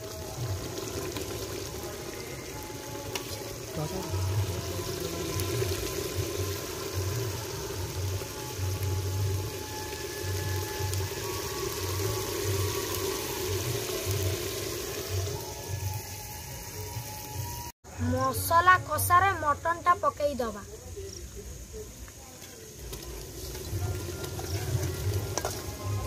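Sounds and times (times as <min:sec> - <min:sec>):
curry boiling and bubbling: 0:00.0 - 0:17.7, 0:22.4 - 0:26.0.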